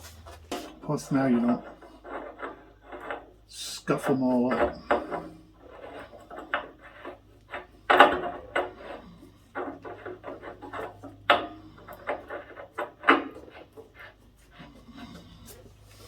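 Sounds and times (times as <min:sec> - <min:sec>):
hand tools and pipe fittings knocking: 0:00.0 - 0:15.8.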